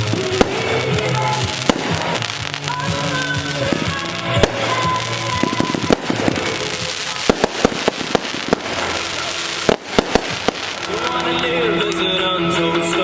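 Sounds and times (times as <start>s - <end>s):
fireworks bursting: 0.0s - 13.0s
music playing: 0.0s - 13.0s.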